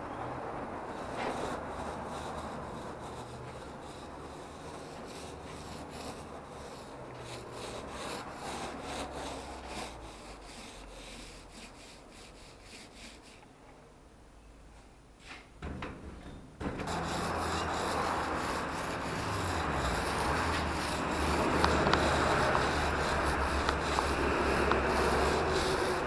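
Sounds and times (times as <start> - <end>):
sander rubbing on plaster: 0.8 - 13.4, 16.8 - 26.0.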